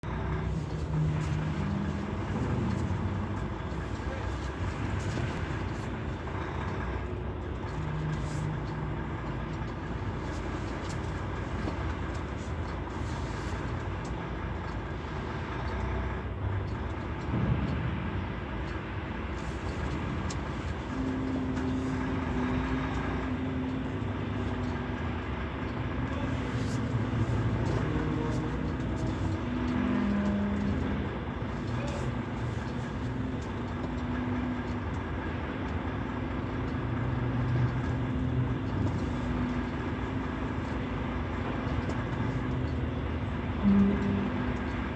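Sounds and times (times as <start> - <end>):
heavy engine humming: 0.0 - 44.9.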